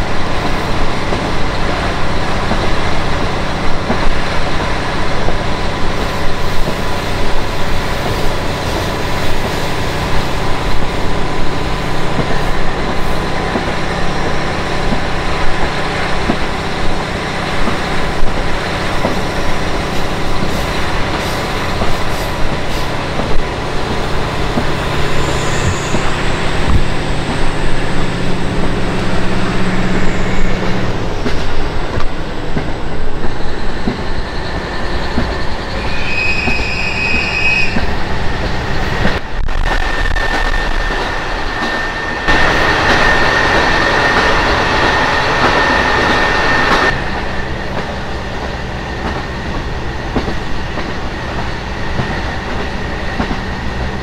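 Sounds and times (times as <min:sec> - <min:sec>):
rail and wheel running noise: 0:00.0 - 0:54.0.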